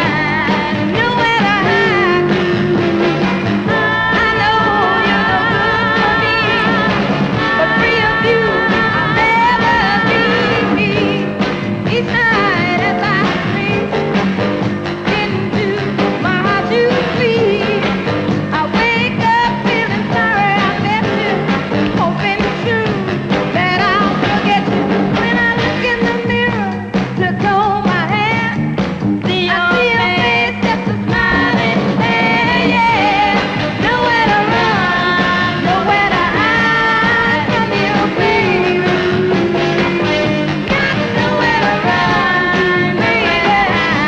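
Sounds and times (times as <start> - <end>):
woman singing: 0.0 - 13.9, 15.0 - 28.6, 29.2 - 44.0
soul-pop band with driving beat: 0.0 - 44.0.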